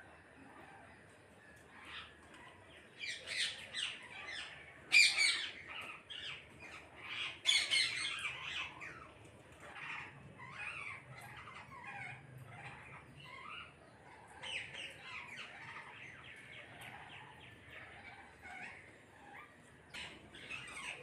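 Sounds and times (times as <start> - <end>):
parrots squawking: 1.8 - 21.0.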